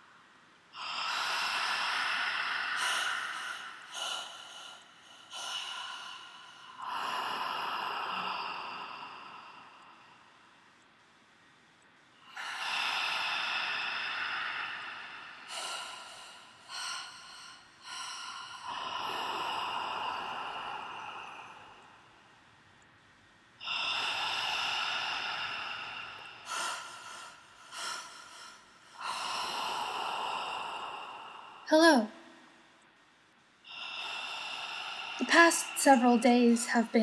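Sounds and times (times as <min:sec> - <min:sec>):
person breathing: 0:00.8 - 0:10.6, 0:12.2 - 0:22.4, 0:23.6 - 0:31.7, 0:33.6 - 0:36.6.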